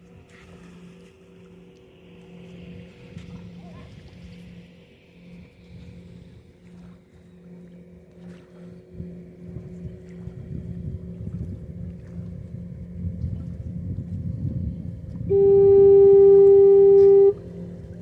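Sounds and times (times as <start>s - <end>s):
low motor drone: 0.0s - 18.0s.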